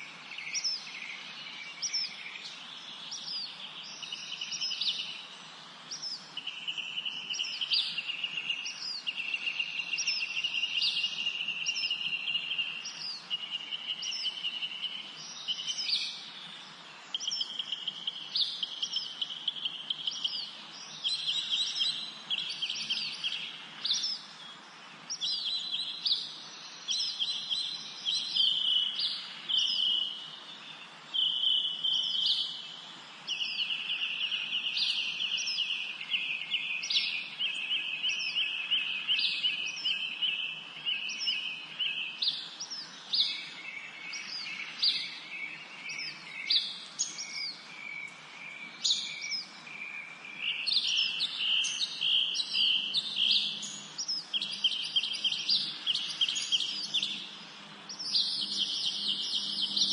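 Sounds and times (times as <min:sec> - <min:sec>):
faint background hiss: 0:00.0 - 0:59.9.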